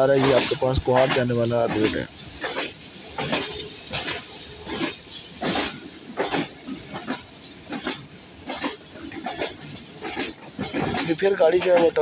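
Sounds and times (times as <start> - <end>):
train wheels clattering over rail joints: 0.0 - 12.0.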